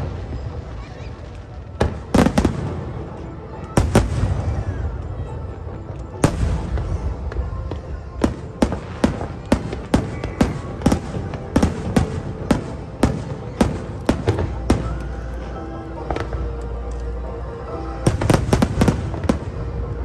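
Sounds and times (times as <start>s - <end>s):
fireworks bursting: 0.0s - 5.0s, 6.1s - 15.4s, 18.0s - 20.0s
music playing: 0.0s - 20.0s.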